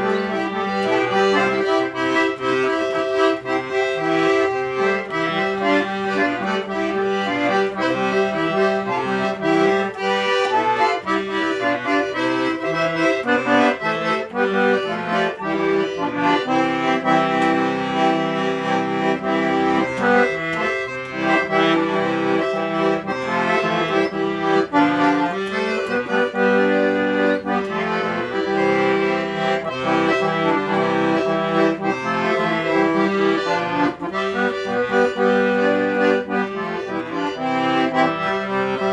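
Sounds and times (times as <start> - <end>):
accordion solo tune: 0.0 - 38.9.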